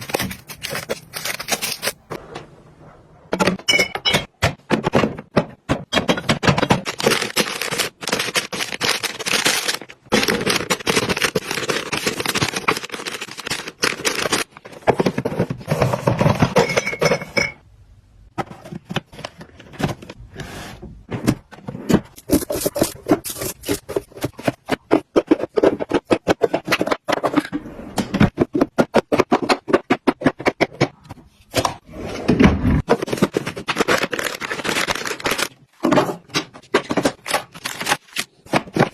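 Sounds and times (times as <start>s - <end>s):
objects and packaging handled: 0.0s - 2.2s, 4.8s - 17.6s, 18.3s - 27.5s, 28.2s - 38.9s.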